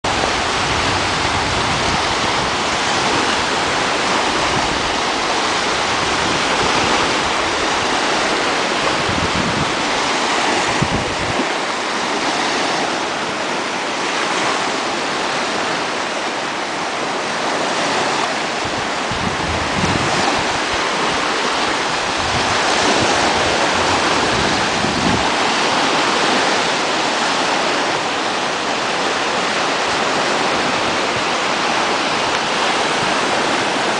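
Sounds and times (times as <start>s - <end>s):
waves breaking on beach: 0.0s - 33.9s
wind buffeting microphone: 0.0s - 33.9s.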